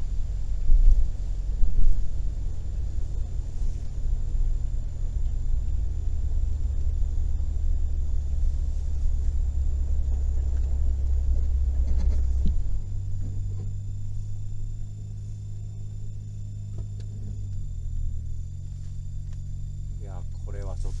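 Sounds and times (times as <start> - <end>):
car interior rumble: 0.0 - 21.0.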